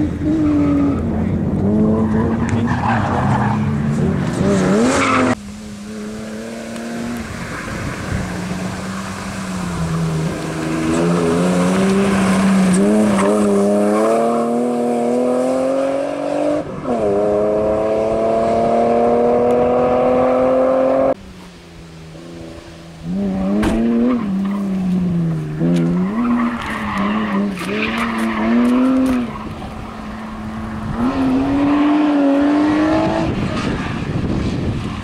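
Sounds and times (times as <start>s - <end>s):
car engine at high revs: 0.0s - 35.0s.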